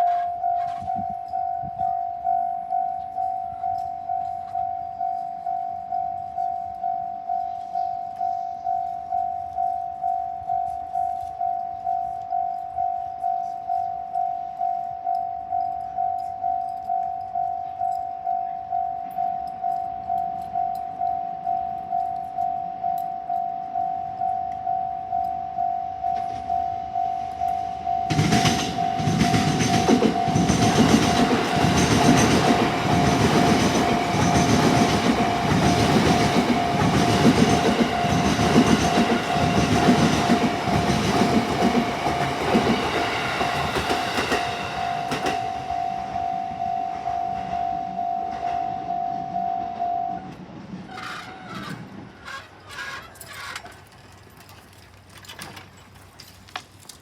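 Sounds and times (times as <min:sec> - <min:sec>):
level-crossing warning bell: 0:00.0 - 0:53.6
train passing: 0:00.0 - 0:54.4.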